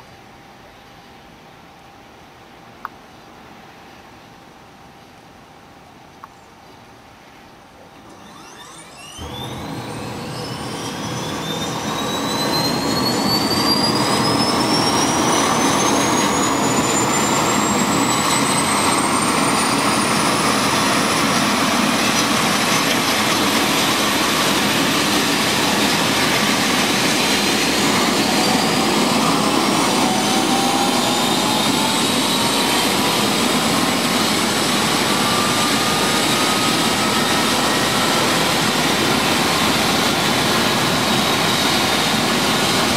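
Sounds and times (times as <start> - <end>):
helicopter turbine whine: 8.0 - 42.9
lower rising whine: 8.0 - 42.9.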